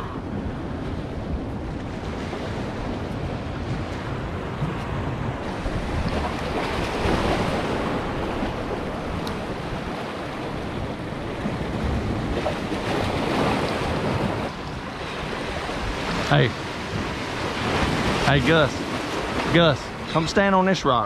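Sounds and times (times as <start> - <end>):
wind buffeting microphone: 0.0 - 20.5
waves splashing against rocks: 0.7 - 21.0.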